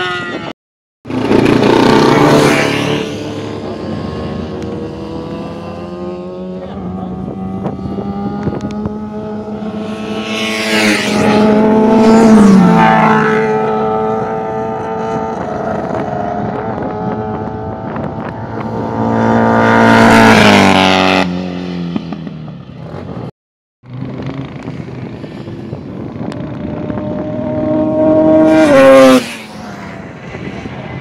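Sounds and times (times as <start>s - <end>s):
racing motorcycles passing: 0.0s - 0.5s, 1.1s - 23.3s, 23.9s - 31.0s.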